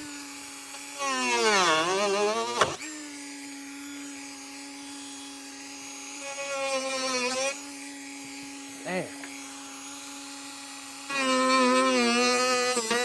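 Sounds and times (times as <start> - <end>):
electric power tool humming: 0.0 - 13.0.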